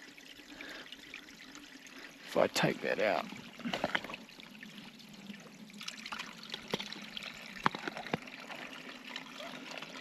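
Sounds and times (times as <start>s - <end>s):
water trickling in creek: 0.0s - 10.0s.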